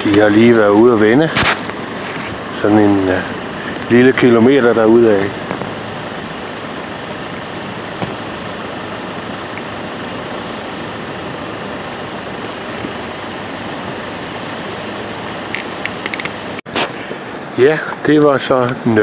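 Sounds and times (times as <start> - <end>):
wind on microphone: 0.0 - 17.8
surf breaking on beach: 0.0 - 19.0.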